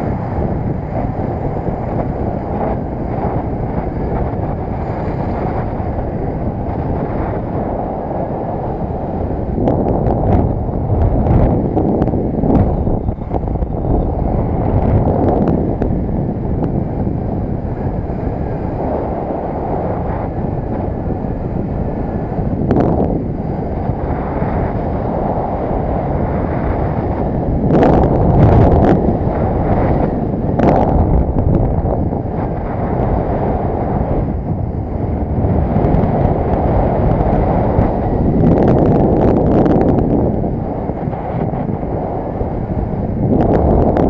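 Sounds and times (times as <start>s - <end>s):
road noise: 0.0s - 44.0s
wind rushing over microphone: 0.0s - 44.0s.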